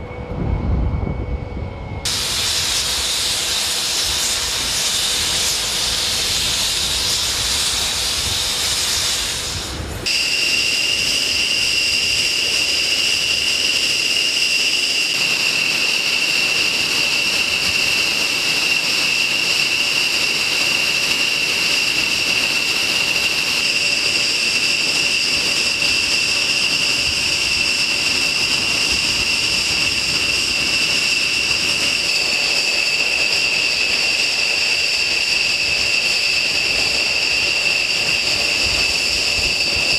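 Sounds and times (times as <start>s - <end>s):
jet engine high whine: 0.0s - 39.9s
jet engines rushing hiss: 0.0s - 39.9s.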